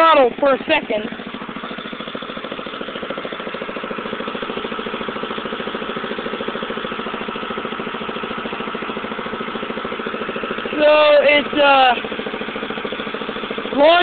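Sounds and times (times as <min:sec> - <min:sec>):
lawn mower engine idling: 0:00.0 - 0:14.0.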